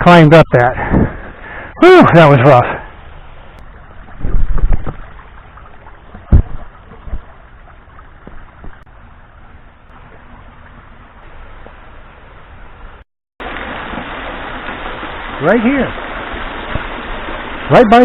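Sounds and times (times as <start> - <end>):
waterfall and creek running: 0.0 - 18.0.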